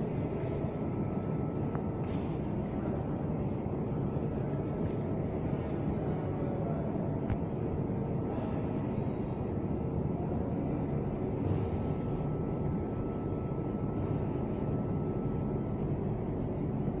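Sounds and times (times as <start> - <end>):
faint steady whine: 0.0 - 17.0
low rumble and hum: 0.0 - 17.0.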